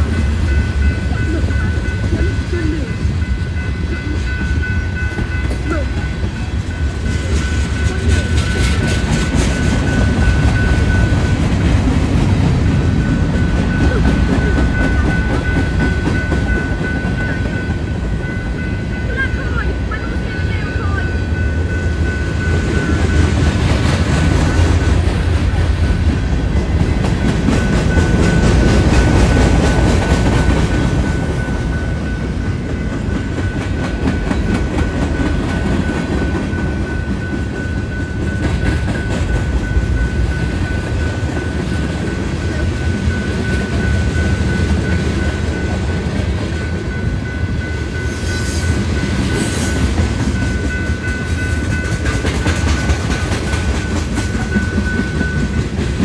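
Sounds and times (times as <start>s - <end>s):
train wheels rumbling and clacking: 0.0s - 56.0s.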